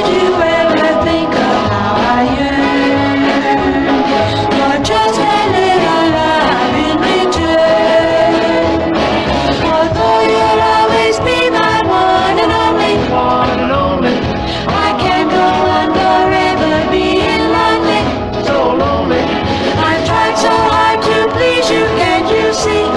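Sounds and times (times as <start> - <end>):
instrumental backing: 0.0 - 22.9
vocal group singing in harmony: 0.0 - 22.9.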